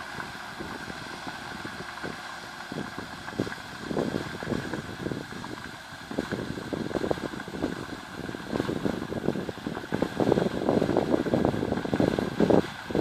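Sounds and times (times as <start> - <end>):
distant tractor engine: 0.0 - 13.0
wind buffeting microphone: 0.0 - 13.0.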